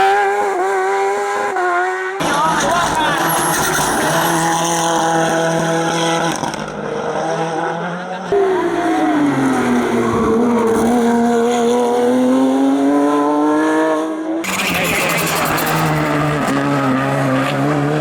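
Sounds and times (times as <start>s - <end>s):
car accelerating: 0.0s - 18.0s
race car engines: 0.0s - 18.0s.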